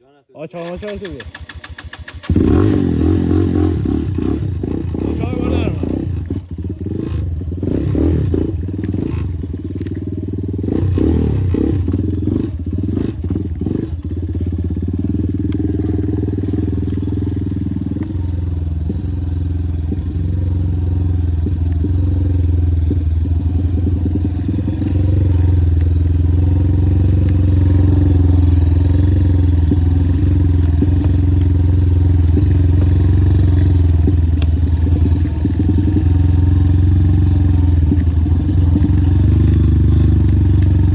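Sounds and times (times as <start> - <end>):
motorcycle engine running: 0.7 - 40.9.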